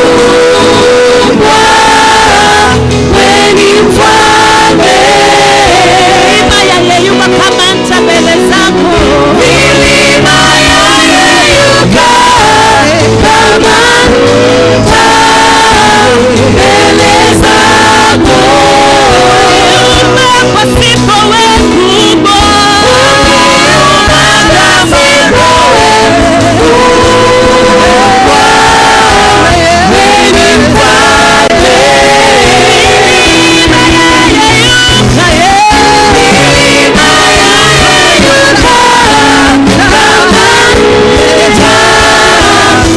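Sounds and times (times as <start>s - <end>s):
gospel singers with band: 0.0s - 42.9s.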